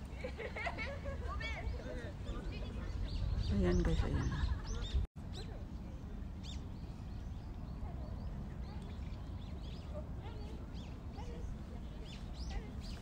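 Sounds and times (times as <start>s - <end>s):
small birds chirping: 1.5s - 13.0s.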